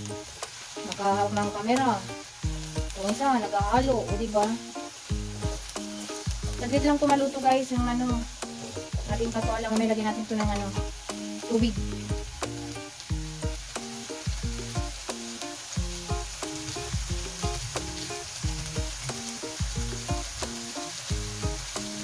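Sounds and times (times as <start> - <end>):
background music: 0.0 - 22.0
vegetables sizzling in a wok: 0.0 - 22.0.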